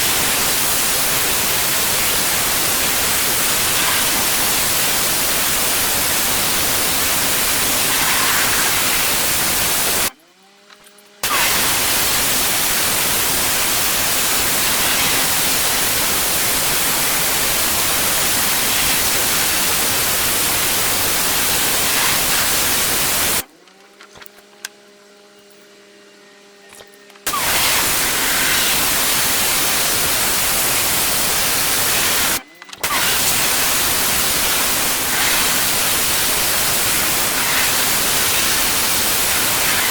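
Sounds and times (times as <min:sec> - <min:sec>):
pressure washer spraying on paving: 0:00.0 - 0:10.1, 0:11.2 - 0:23.5, 0:27.3 - 0:39.9.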